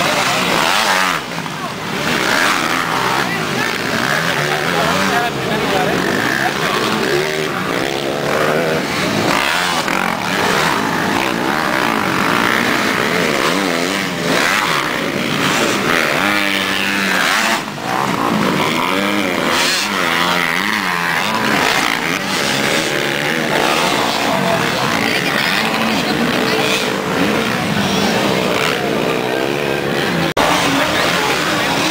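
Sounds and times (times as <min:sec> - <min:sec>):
motocross motorcycle engines revving: 0:00.0 - 0:31.9.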